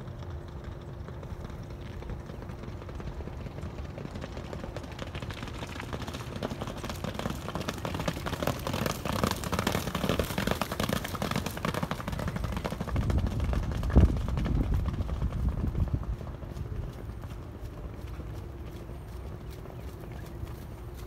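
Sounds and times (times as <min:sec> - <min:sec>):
galloping hooves on wet dirt: 0:00.0 - 0:21.0.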